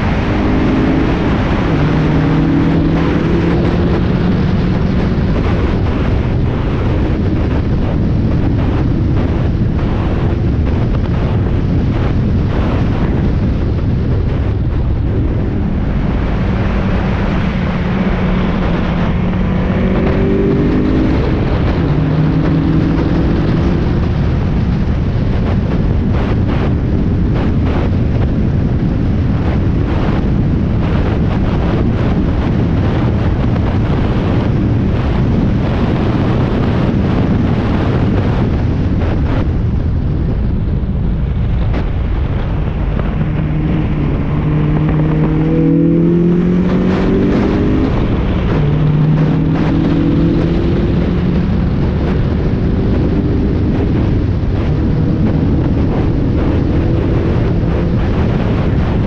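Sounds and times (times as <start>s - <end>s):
race car engine: 0.0s - 39.6s, 40.5s - 59.0s
wind and road noise: 0.0s - 59.0s.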